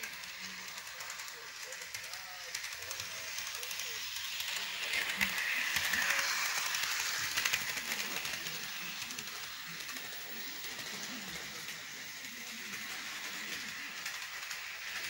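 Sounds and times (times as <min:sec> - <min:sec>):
model train whirring rattle: 0:00.0 - 0:15.0.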